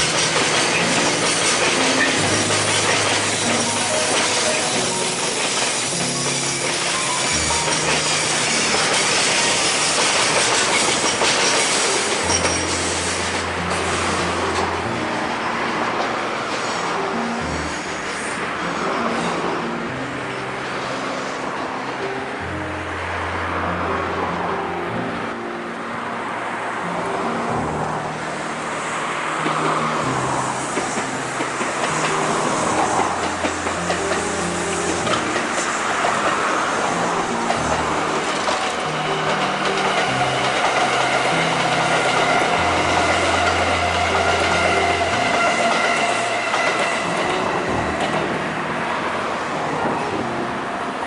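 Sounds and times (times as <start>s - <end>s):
rail joint clicks: 0.0s - 19.6s, 27.7s - 50.3s
background music with held notes: 0.0s - 20.9s, 30.6s - 51.0s
train wheels rumbling on rail: 0.0s - 25.4s, 26.3s - 51.0s.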